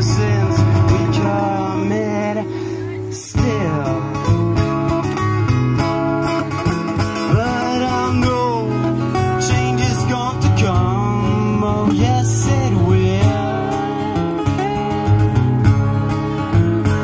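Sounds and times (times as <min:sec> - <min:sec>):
acoustic guitars playing: 0:00.0 - 0:17.0.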